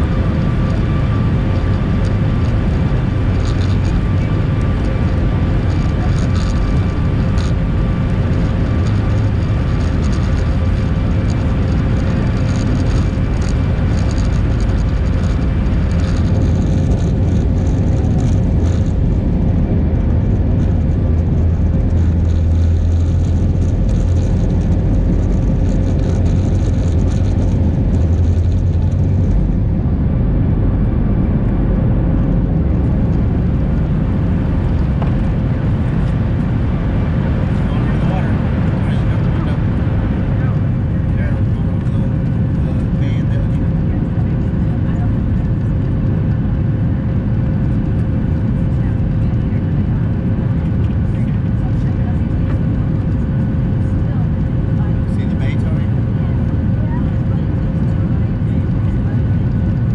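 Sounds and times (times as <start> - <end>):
airliner cabin engine rumble: 0.0 - 59.9
constant whine: 0.0 - 59.9.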